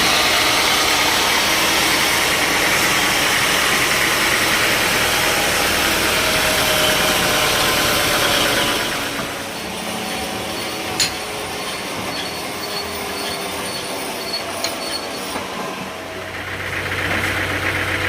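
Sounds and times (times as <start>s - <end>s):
sawmill machinery cutting: 0.0s - 18.0s
sawmill machinery running: 0.0s - 18.0s.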